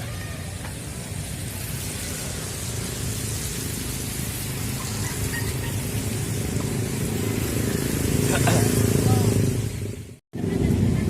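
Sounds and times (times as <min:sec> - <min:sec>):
rain falling: 0:00.0 - 0:09.9.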